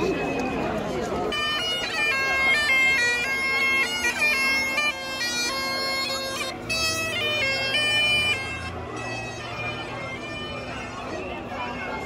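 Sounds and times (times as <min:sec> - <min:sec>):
bagpipes playing a melody: 0:00.0 - 0:12.0.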